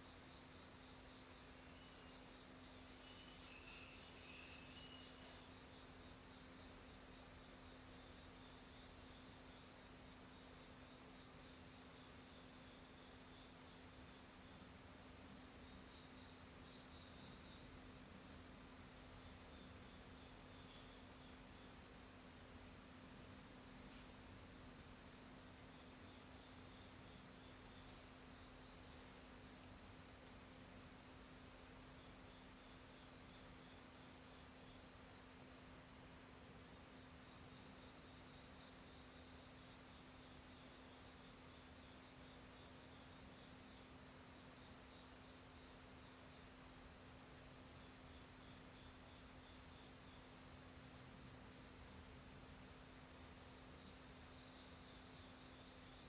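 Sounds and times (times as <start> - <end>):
night insects trilling: 0.0 - 56.0.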